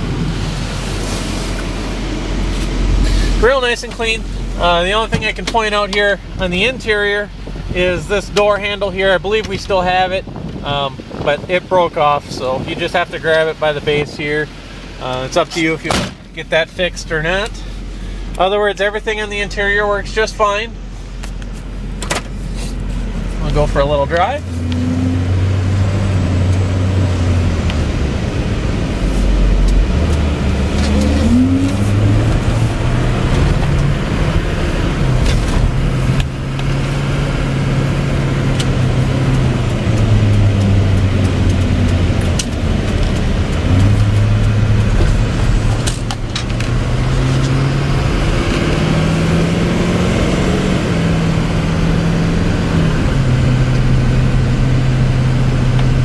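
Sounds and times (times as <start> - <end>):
diesel truck accelerating: 0.0 - 56.0.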